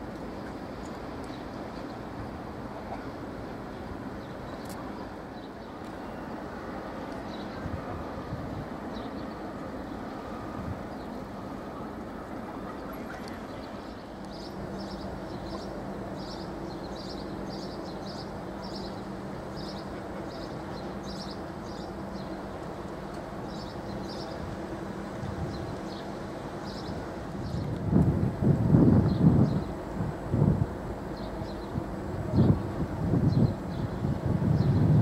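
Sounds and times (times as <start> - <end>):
ship engine rumble: 0.0 - 35.0.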